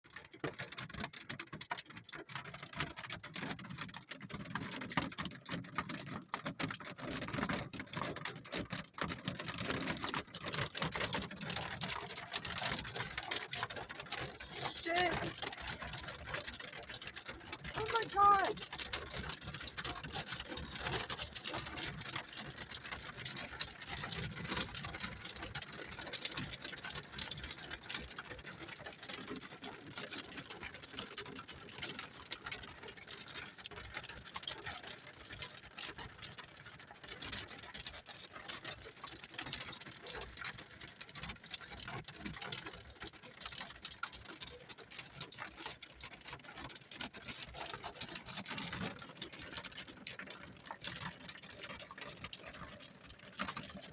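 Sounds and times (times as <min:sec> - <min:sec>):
hail and rain pelting a car roof: 0:00.1 - 0:53.9.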